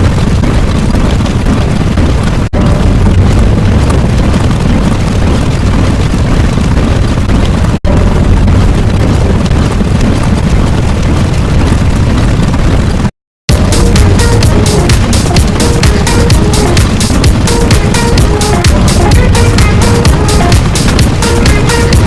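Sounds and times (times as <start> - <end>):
deep rumbling blast: 0.0 - 22.0.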